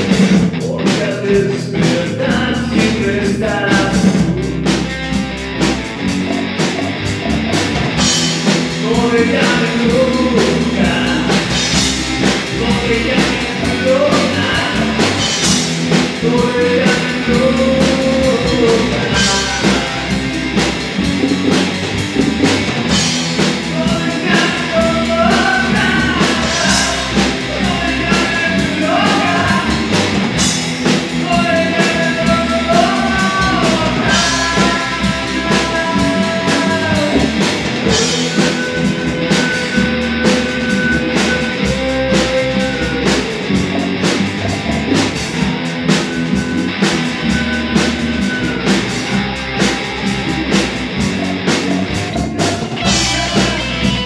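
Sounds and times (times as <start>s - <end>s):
rock song with drums and guitars: 0.0s - 54.0s.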